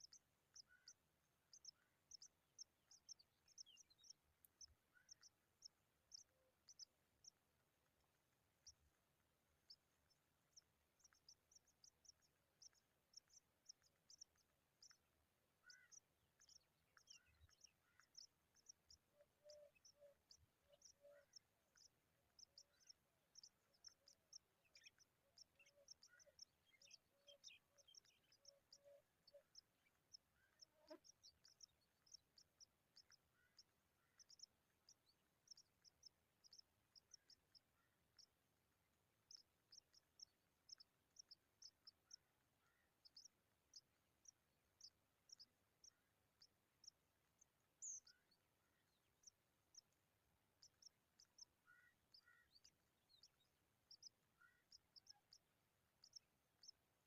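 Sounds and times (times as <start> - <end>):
lower soft bird calls: 0.0 - 57.0.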